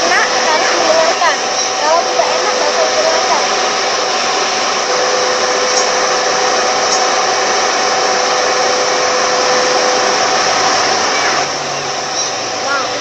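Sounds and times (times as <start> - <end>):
air conditioning blower fan: 0.0 - 13.0.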